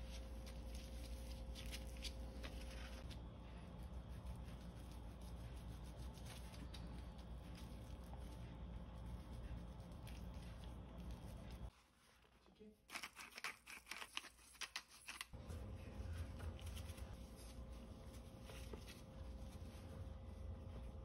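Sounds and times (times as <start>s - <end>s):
soft rustling of hands in flour: 0.0s - 13.1s, 15.0s - 21.0s.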